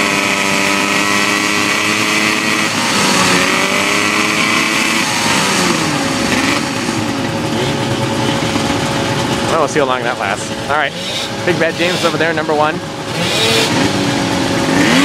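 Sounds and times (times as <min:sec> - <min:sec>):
snowmobile engine revving: 0:00.0 - 0:15.0
two-stroke snowmobile engines running: 0:00.0 - 0:15.0.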